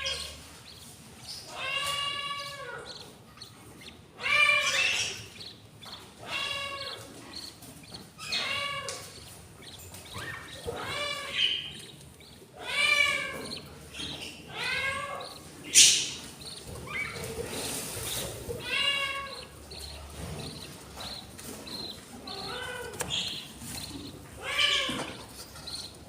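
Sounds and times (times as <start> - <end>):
budgerigar chicks begging calls: 0.0 - 26.0.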